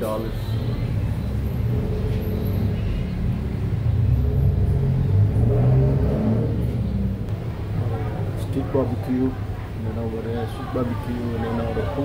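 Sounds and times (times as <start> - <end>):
low steady rumble: 0.6 - 11.5.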